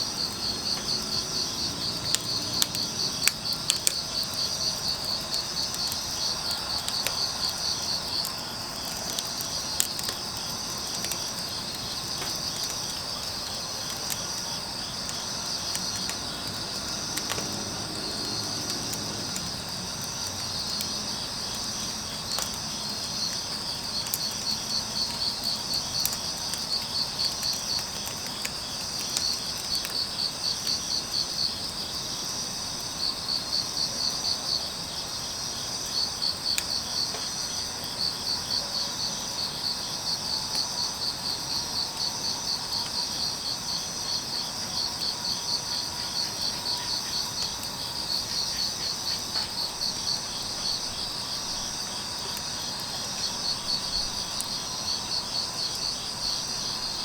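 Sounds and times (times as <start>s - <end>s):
crickets chirping: 0.0s - 57.0s
wood fire crackling: 0.0s - 57.0s.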